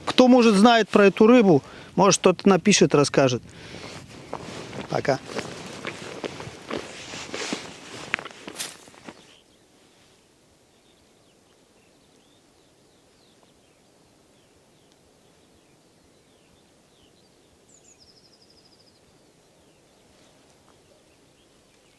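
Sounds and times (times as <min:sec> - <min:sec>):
faint birdsong chirps and trill: 0:03.1 - 0:21.9.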